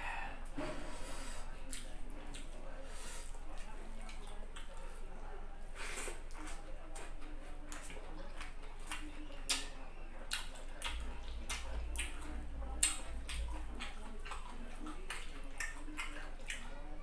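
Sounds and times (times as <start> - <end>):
person chewing food: 1.3 - 4.9, 5.8 - 17.0.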